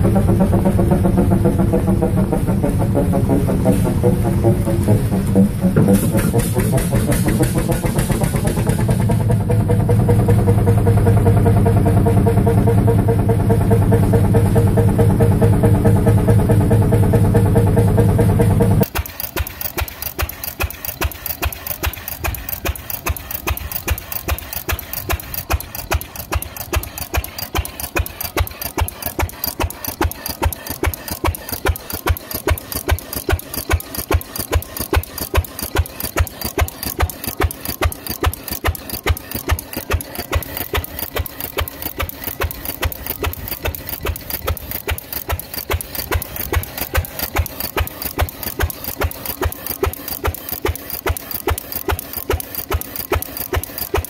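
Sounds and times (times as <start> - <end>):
stationary engine idling: 0.0 - 54.0.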